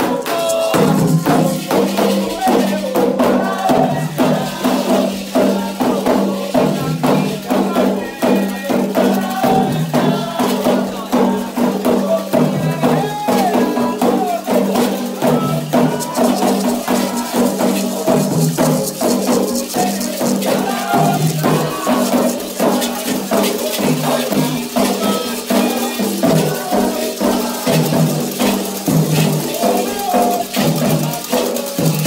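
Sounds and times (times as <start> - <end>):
fast percussion with rattles: 0.0 - 32.0
voices singing: 0.0 - 32.0.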